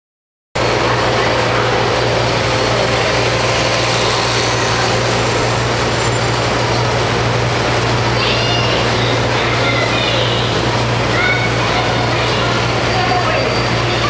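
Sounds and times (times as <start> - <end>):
model train rolling on track: 0.6 - 14.0.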